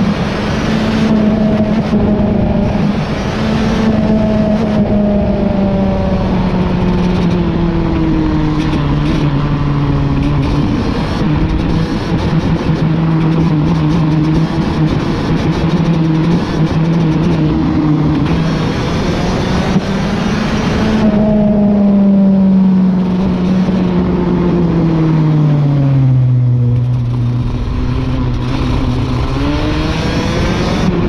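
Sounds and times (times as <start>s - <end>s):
kart engine at speed: 0.0s - 31.0s.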